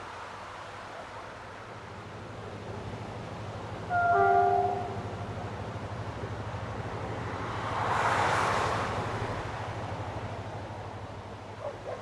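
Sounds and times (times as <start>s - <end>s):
distant train rumbling: 1.1s - 12.0s.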